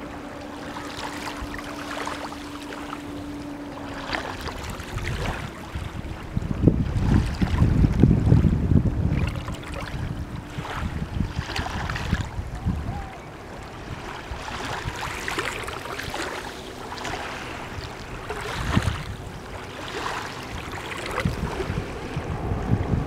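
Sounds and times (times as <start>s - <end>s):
waves lapping on beach: 0.0s - 23.0s
wind buffeting microphone: 0.0s - 23.0s.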